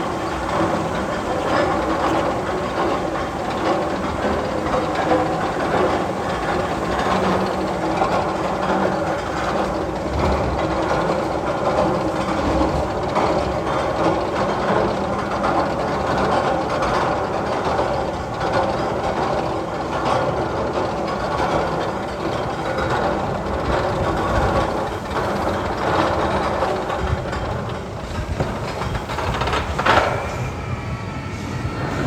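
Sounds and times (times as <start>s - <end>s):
rail vehicle rumbling and clattering: 0.0s - 32.0s.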